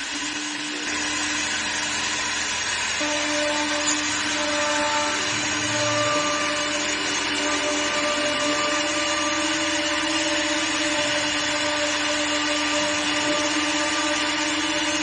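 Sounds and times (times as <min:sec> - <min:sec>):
hiss of workpiece machining: 0:00.0 - 0:15.0
lathe motor whine: 0:00.0 - 0:15.0.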